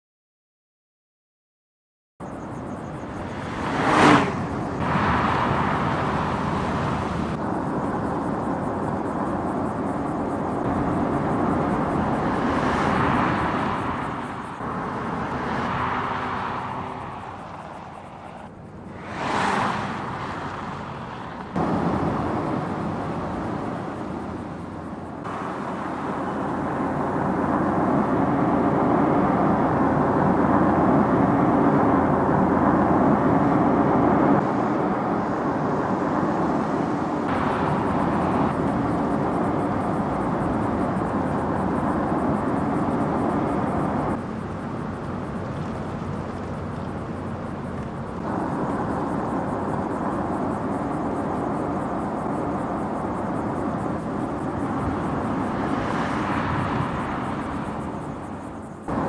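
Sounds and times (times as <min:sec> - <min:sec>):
car engine at speed: 0:02.2 - 0:59.0
tyre and road noise: 0:02.2 - 0:59.0
car passing by: 0:02.8 - 0:07.4, 0:10.6 - 0:59.0.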